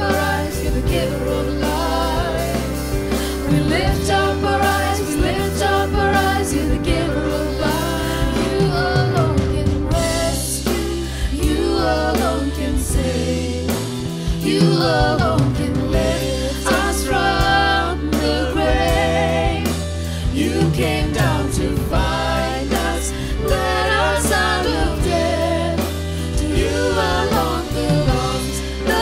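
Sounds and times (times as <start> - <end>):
sustained instrumental chords: 0.0 - 29.0
voices singing worship song: 0.0 - 29.0.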